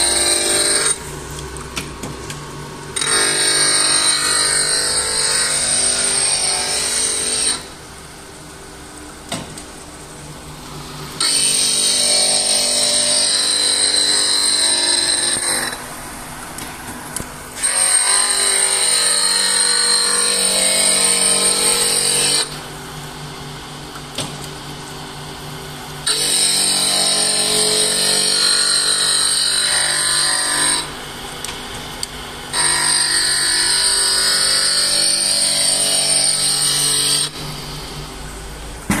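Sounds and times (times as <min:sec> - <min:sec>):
high-pitched grinding whine: 0:00.0 - 0:39.0.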